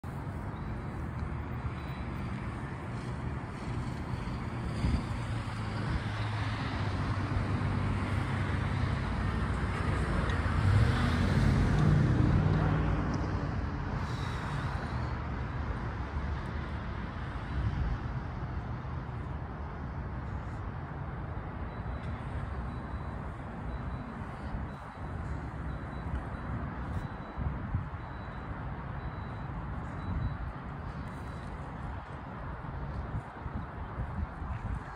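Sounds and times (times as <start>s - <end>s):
passing cars rumbling: 0.0s - 34.9s.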